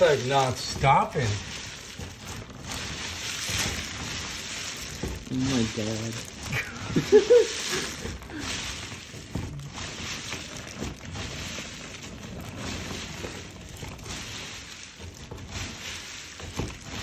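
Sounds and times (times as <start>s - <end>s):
acorns pouring and rattling: 0.0s - 17.0s.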